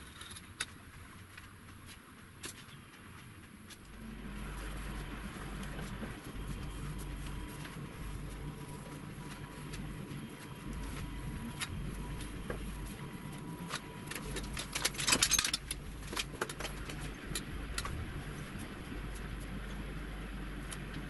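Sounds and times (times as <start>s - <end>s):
low hum: 2.7s - 21.0s.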